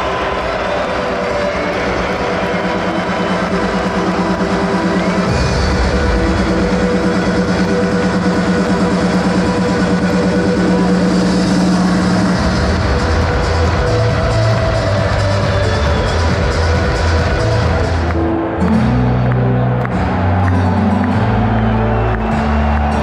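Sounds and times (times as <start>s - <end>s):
music with steady beat: 0.0s - 23.0s
deep bass line: 3.2s - 23.0s.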